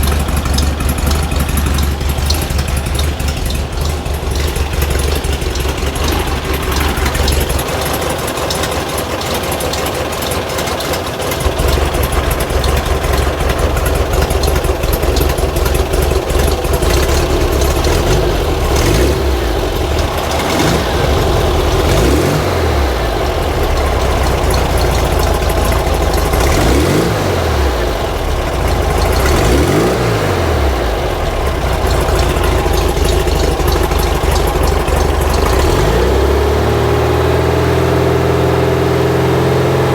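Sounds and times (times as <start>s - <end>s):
air-cooled engine running: 0.0s - 39.9s.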